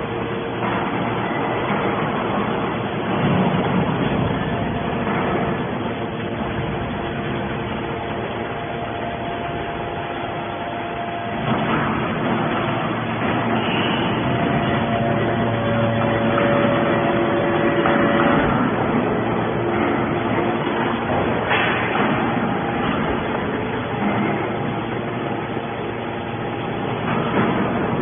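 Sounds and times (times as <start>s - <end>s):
hydraulic baler running: 0.0s - 28.0s.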